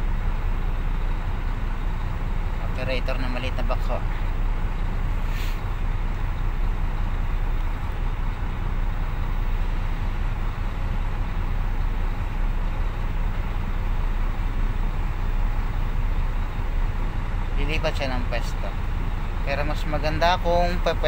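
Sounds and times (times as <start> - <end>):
diesel engines rumbling: 0.0 - 21.0.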